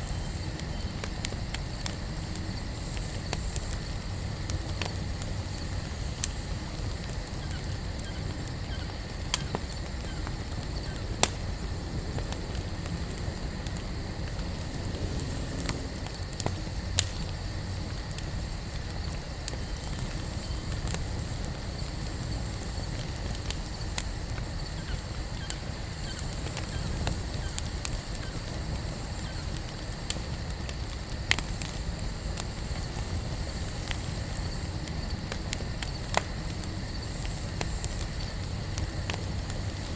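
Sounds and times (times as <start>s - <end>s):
campfire rumbling: 0.0s - 39.9s
fire crackling and popping: 0.0s - 39.9s.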